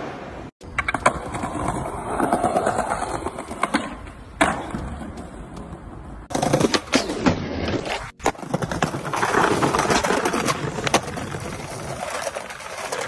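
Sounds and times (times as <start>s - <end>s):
skateboard wheels rolling on paving: 0.0s - 13.0s.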